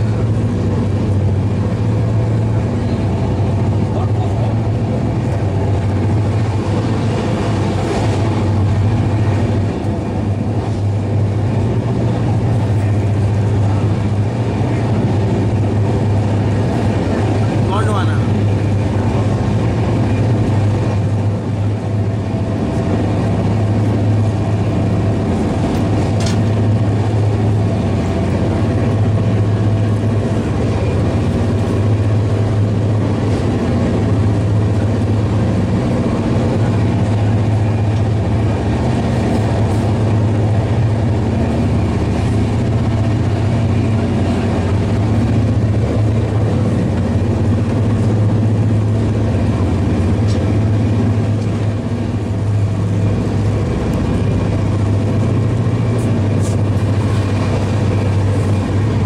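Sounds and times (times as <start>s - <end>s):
strong low hum: 0.0s - 59.0s
train wheels rumbling on rails: 0.0s - 59.0s.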